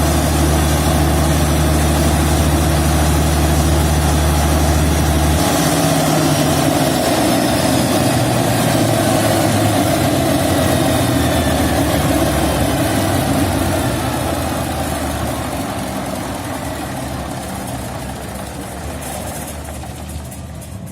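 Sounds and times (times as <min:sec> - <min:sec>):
diesel generator running: 0:00.0 - 0:20.9.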